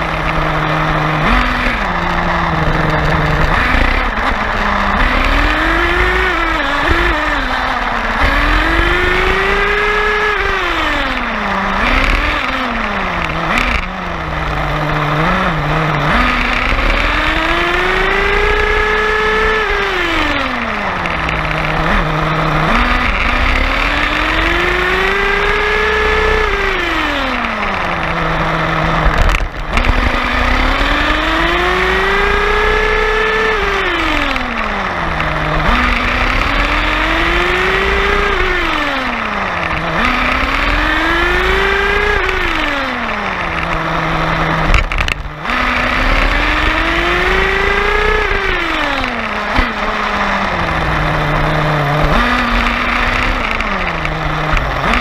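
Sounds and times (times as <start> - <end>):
rc car motor whining: 0.0 - 55.0.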